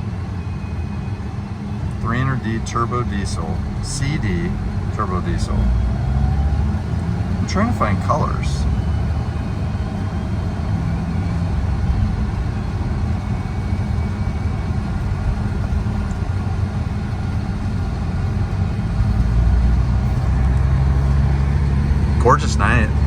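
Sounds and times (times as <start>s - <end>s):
diesel engine running: 0.0s - 23.0s
road noise: 0.0s - 23.0s.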